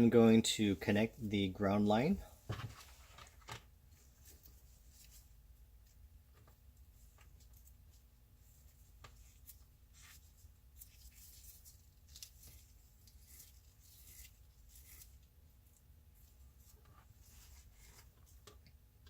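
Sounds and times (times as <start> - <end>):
low steady hum: 0.0 - 19.0
wires scraping and rustling: 2.3 - 18.6.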